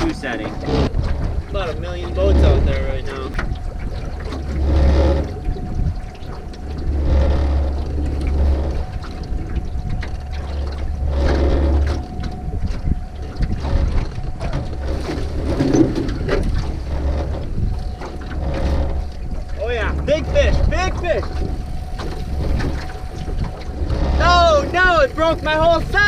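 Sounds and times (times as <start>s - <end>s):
boat motor hum: 0.0s - 26.0s
wind buffeting microphone: 0.0s - 26.0s.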